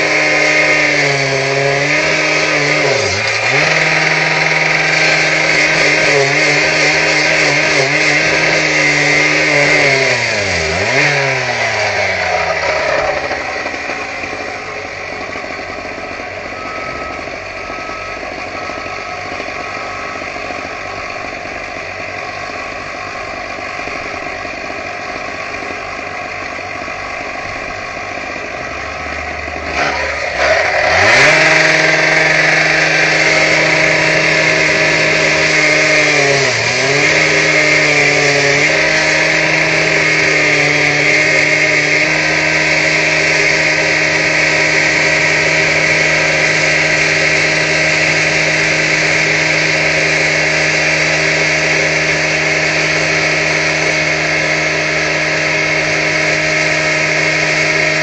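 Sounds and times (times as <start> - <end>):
power saw whining: 0.0 - 58.0.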